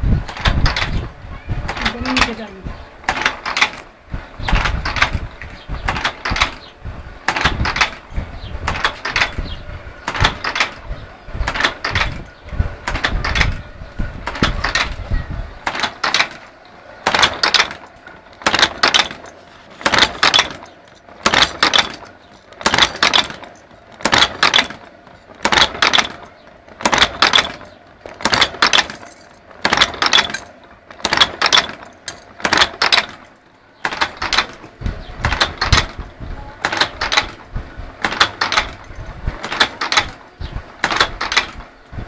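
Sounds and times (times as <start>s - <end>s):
wire forming machine running: 0.0s - 42.0s.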